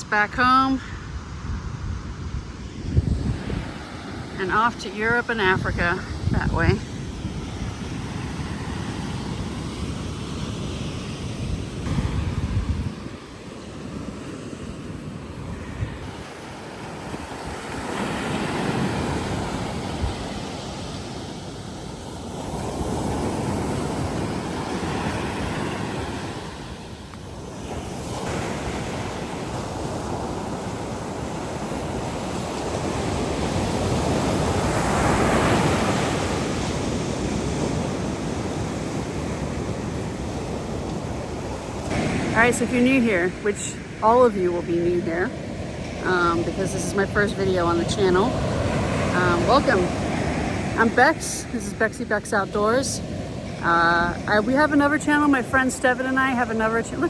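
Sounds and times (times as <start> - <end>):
surf breaking on a beach: 0.0 - 57.0
wind buffeting the microphone: 0.0 - 57.0.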